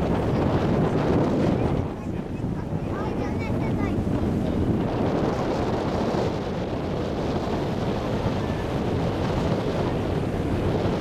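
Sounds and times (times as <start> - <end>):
water washing along hull: 0.0 - 11.0
wind buffeting microphone: 0.0 - 11.0.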